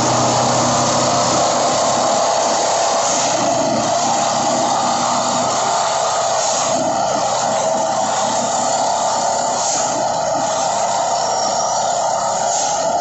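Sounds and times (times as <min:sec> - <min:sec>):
machine engine and hydraulics drone: 0:00.0 - 0:13.0.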